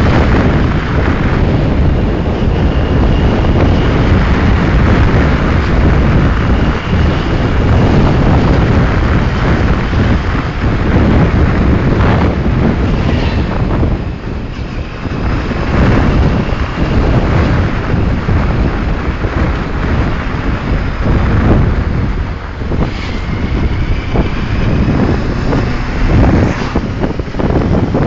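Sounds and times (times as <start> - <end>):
motorbike engine: 0.0 - 28.0
road noise: 0.0 - 28.0
wind buffeting microphone: 0.0 - 28.0.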